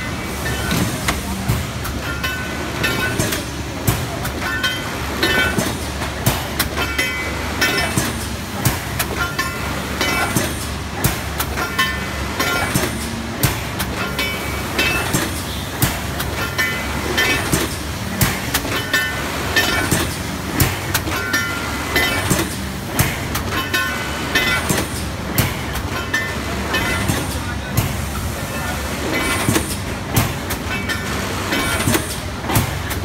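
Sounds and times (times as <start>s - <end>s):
press clacks and knocks: 0.0s - 33.0s.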